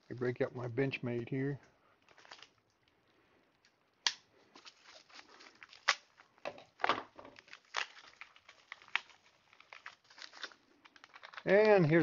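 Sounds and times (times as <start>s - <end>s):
plastic bag crinkling: 2.0s - 12.0s.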